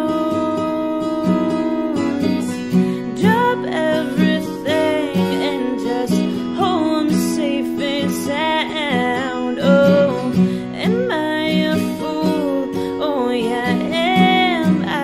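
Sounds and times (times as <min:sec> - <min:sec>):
acoustic guitar: 0:00.0 - 0:15.0
woman singing: 0:00.0 - 0:15.0.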